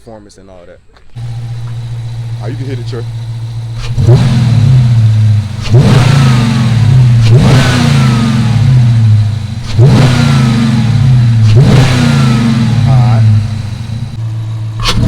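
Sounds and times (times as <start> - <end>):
car engine revving: 1.2 - 15.0.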